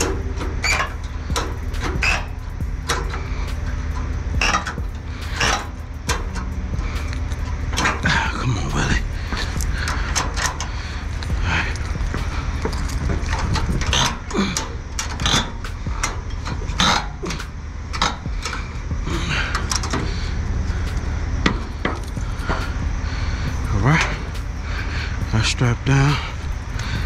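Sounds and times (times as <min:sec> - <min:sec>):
metallic clanks and clicks: 0:00.0 - 0:27.0
steady low rumble: 0:00.0 - 0:27.0.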